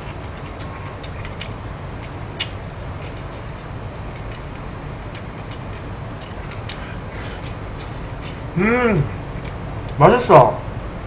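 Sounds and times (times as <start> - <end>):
person chewing: 0.0 - 8.5, 9.4 - 10.0
steady low hum: 0.0 - 11.0.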